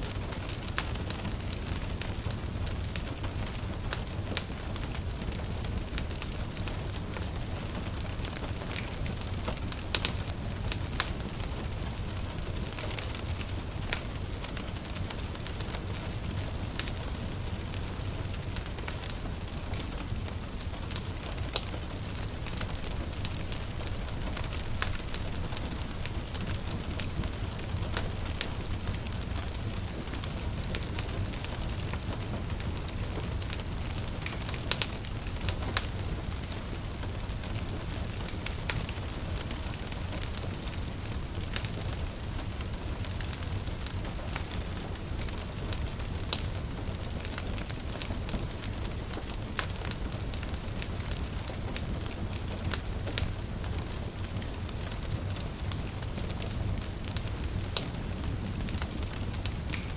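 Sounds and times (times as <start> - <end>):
gentle rain: 0.0 - 59.9
wood fire crackling and popping: 0.0 - 59.9.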